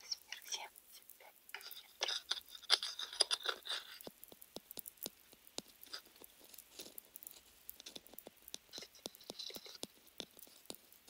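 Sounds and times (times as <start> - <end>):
paintbrush bristles crackling: 0.0 - 11.0.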